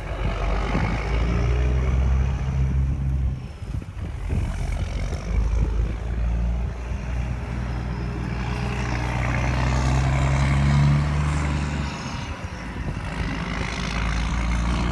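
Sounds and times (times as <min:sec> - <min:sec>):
combine harvester engine running: 0:00.0 - 0:14.9.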